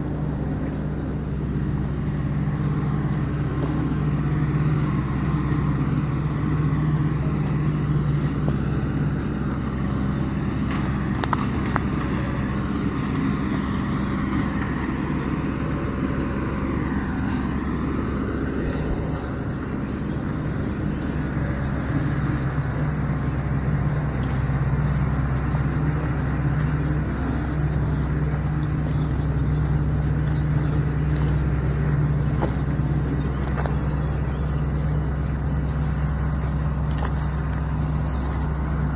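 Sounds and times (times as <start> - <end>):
small vehicle engine humming: 0.0 - 38.9.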